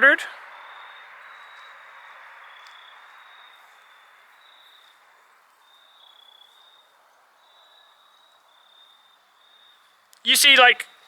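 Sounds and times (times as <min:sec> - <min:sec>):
insects trilling: 0:00.2 - 0:11.0.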